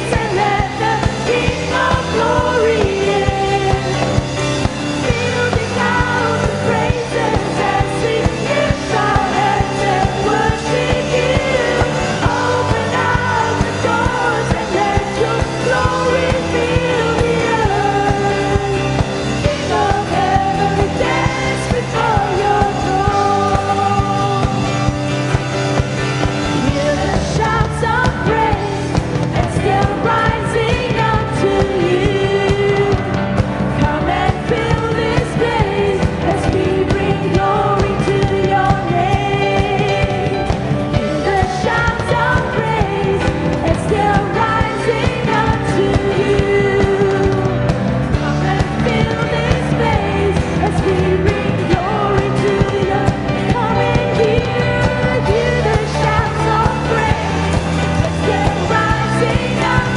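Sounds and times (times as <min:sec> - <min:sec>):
person singing lead vocal: 0:00.0 - 0:59.9
steady drum beat: 0:00.0 - 0:59.9.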